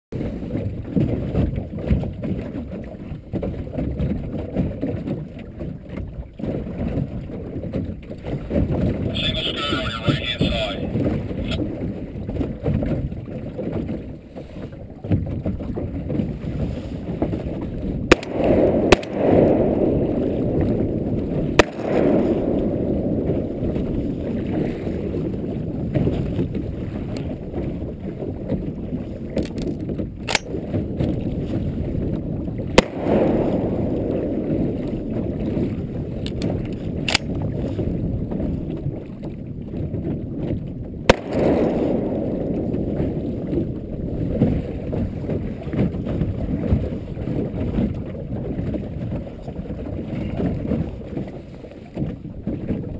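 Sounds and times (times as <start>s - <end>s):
water slapping against hull: 0.1s - 52.9s
wind buffeting microphone: 0.1s - 52.9s.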